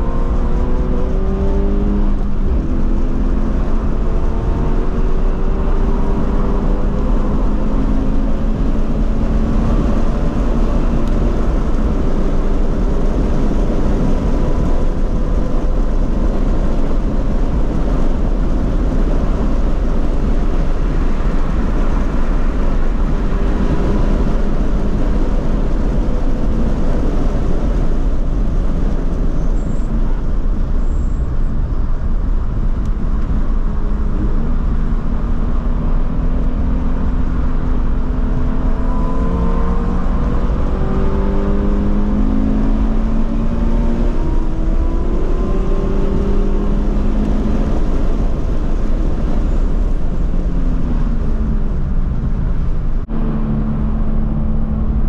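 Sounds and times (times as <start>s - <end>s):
wind and road noise in car: 0.0s - 55.0s.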